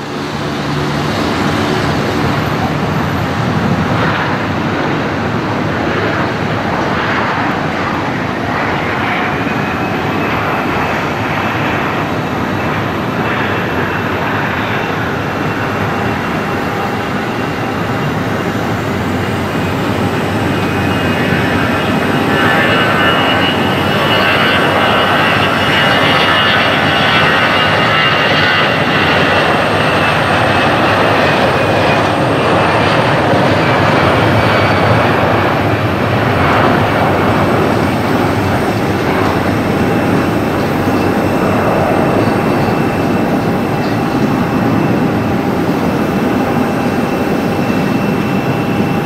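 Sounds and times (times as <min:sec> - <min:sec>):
high-pitched engine whine: 0:00.0 - 0:49.0
jet airliner taking off: 0:00.0 - 0:49.0.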